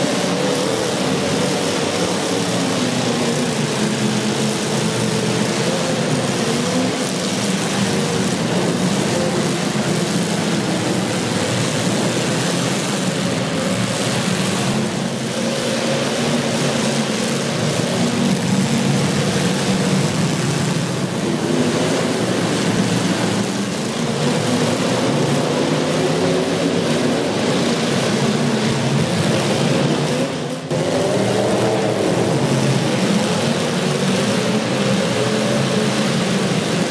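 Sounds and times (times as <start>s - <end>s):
car engines droning: 0.0s - 36.9s.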